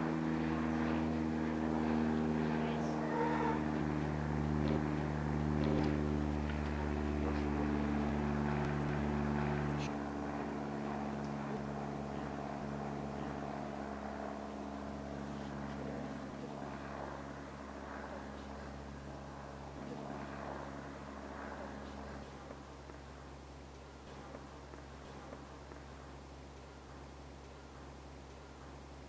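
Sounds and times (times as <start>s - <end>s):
light aircraft flying overhead: 0.0s - 29.0s.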